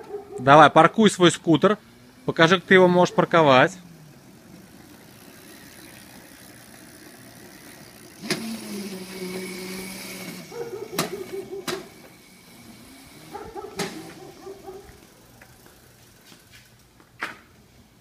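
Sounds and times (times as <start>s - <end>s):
electric scooter motor whining: 0.0s - 17.1s.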